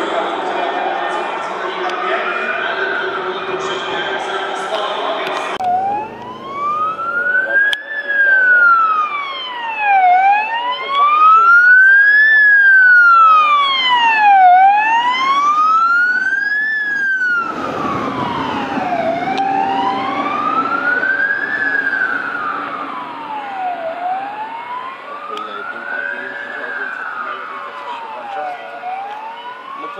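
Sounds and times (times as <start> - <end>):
ambulance siren wailing: 0.0 - 29.9
vehicle engine and tyre noise: 1.8 - 9.8, 12.3 - 29.9.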